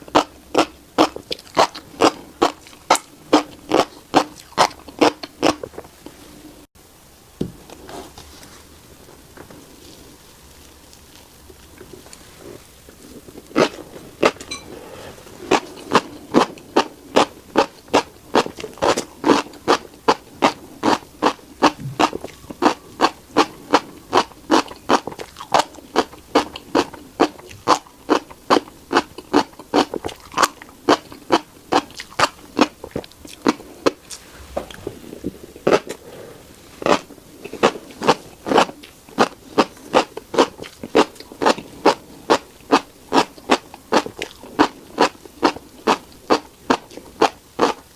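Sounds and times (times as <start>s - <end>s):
chewing crunchy seeds: 0.0s - 6.4s, 9.4s - 47.9s.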